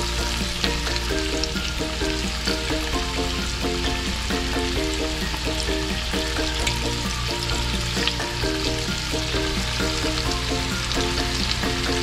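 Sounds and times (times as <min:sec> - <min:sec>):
background music: 0:00.0 - 0:12.0
chicken wings sizzling in oil: 0:00.0 - 0:12.0.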